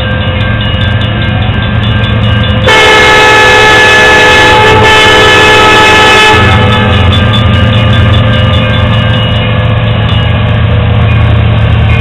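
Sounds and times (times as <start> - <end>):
crossing bell ringing: 0.0 - 12.0
diesel locomotives rumbling: 0.0 - 12.0.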